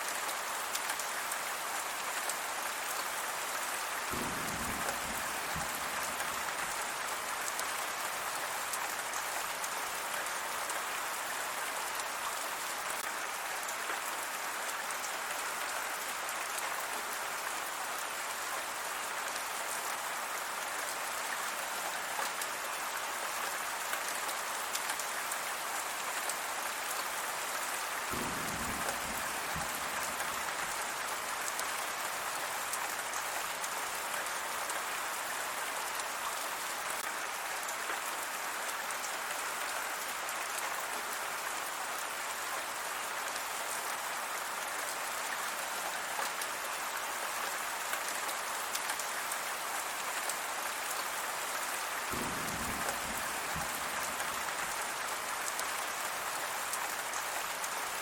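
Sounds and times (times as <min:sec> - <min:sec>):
rain pattering on surfaces: 0:00.0 - 0:58.0.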